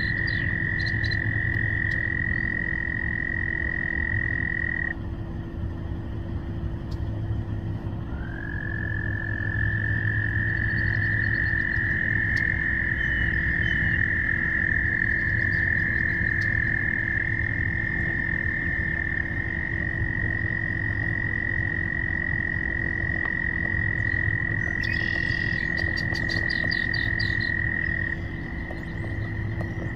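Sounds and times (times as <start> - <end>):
frogs trilling: 0.0 - 29.9.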